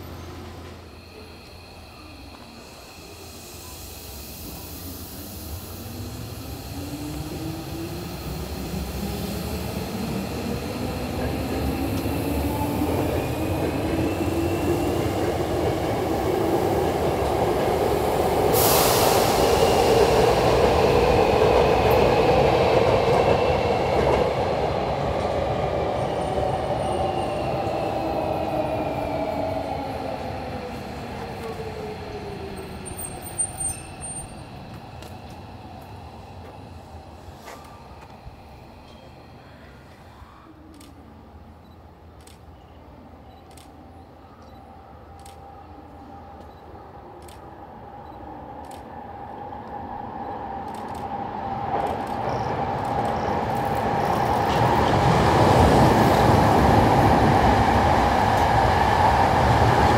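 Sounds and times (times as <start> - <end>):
train wheel and rail noise: 0.0 - 59.9.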